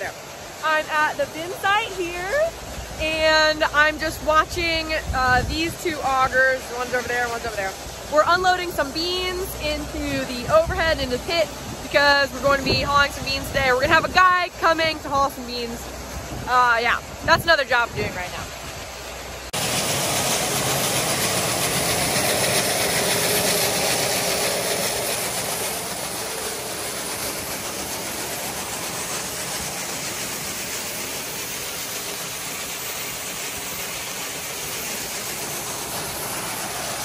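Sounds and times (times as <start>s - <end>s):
grain augers running: 0.6s - 37.0s.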